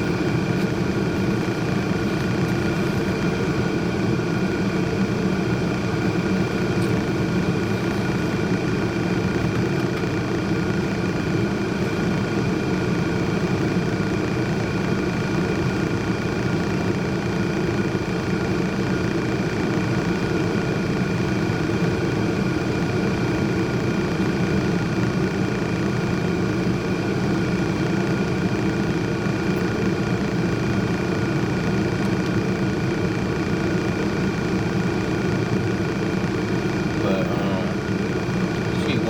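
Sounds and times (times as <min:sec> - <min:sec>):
mechanical drone with whine: 0:00.0 - 0:39.0.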